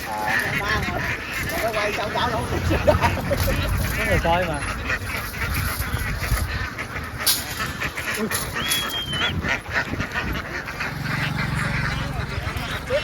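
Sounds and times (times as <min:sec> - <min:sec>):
flock of ducks quacking: 0:00.0 - 0:13.0.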